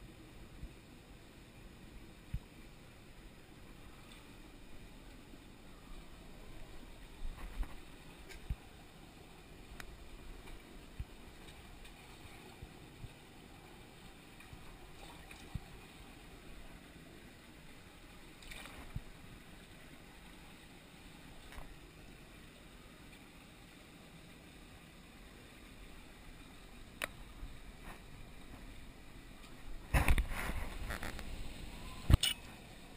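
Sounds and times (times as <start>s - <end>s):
stream water running: 0.0s - 32.9s.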